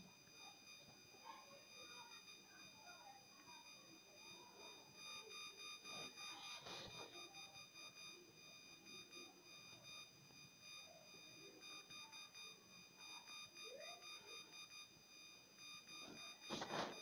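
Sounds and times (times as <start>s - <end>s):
faint high-pitched electronic whine: 0.0s - 17.0s.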